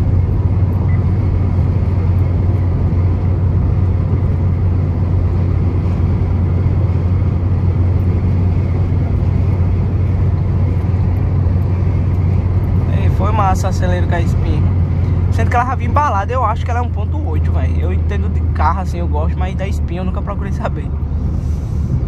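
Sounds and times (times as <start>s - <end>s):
car cabin road noise: 0.0s - 22.0s.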